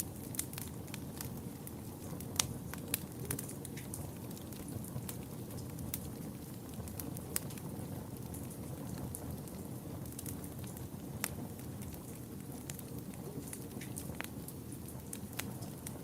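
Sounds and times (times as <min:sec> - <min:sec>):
fire crackles and pops: 0:00.0 - 0:16.0.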